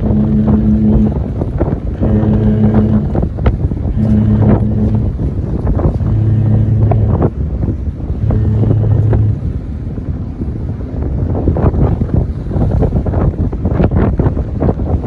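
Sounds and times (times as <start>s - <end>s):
deep ship horn blasts: 0.0s - 15.0s.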